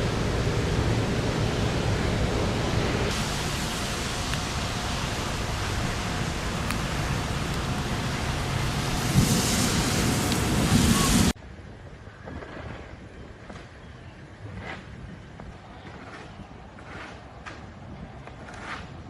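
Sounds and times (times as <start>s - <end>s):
storm wind on microphone: 0.0s - 16.8s.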